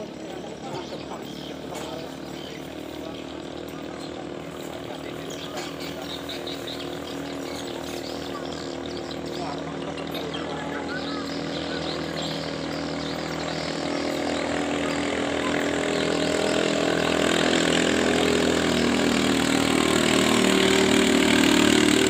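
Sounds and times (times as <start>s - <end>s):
boat engine at high revs: 0.0s - 22.0s.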